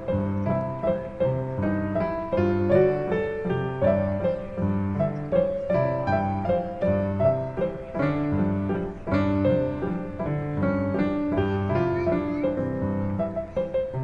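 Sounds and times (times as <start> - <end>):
keyboard melody music: 0.0 - 14.0.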